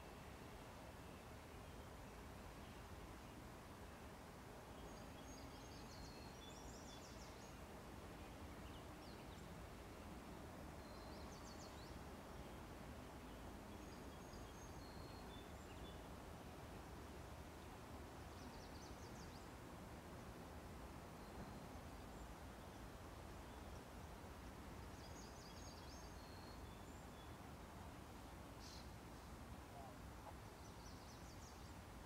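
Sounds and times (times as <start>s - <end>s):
faint songbird chirping: 0.0s - 32.0s.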